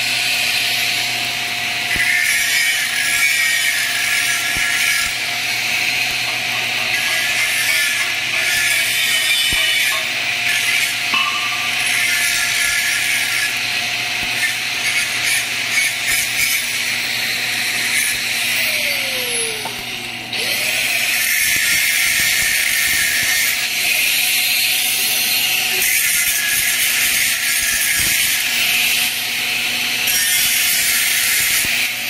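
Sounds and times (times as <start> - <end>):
welding arc crackling: 0.0 - 29.0.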